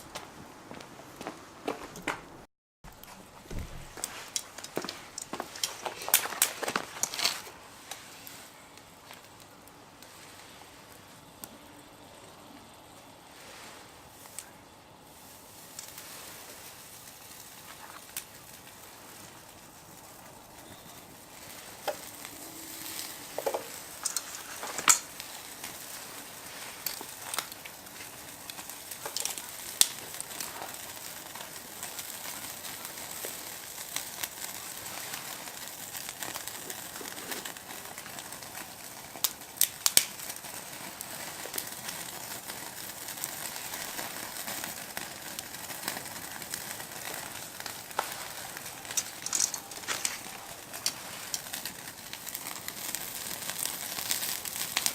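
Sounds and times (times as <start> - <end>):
fire clicks and pops: 2.9 - 54.9
meat sizzling on a grill: 3.5 - 54.9.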